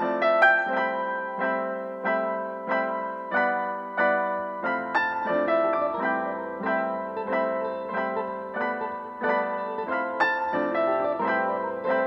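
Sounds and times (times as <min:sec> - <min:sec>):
piano chords ringing: 0:00.0 - 0:12.0.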